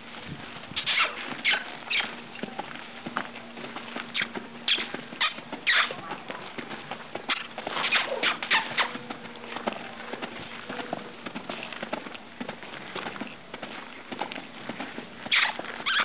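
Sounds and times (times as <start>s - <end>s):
horse hooves on sand: 0.0s - 16.0s.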